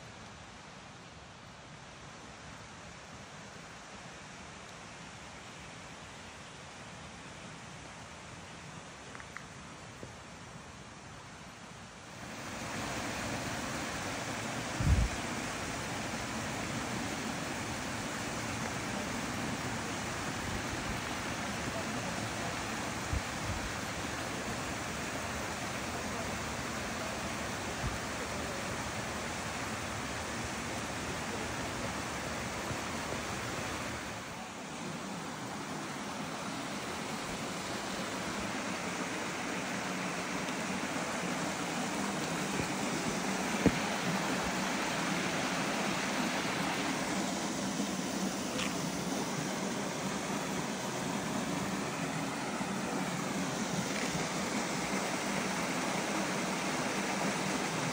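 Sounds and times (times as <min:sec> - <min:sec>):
stream flowing over rocks: 0:01.4 - 0:57.9.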